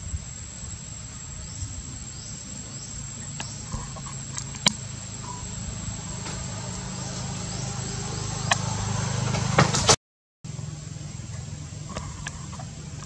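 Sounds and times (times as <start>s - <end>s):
insects trilling: 0.0s - 9.8s, 10.5s - 13.0s.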